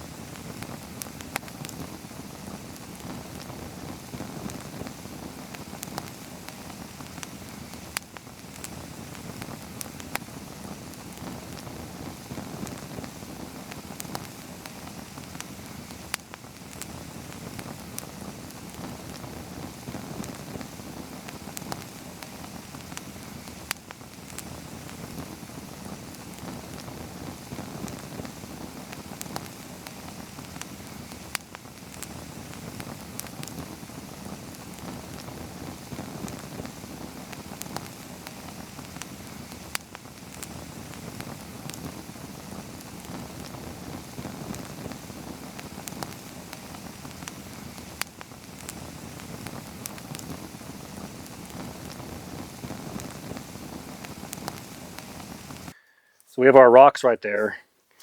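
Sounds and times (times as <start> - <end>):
campfire crackling: 0.0 - 57.5.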